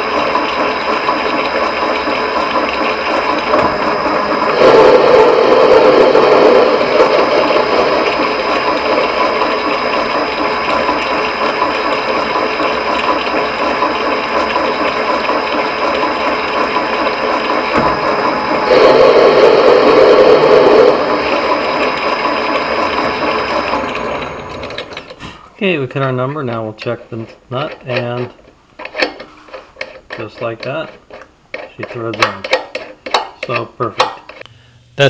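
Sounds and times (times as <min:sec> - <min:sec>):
metal lathe whirring: 0:00.0 - 0:25.2, 0:26.2 - 0:34.4.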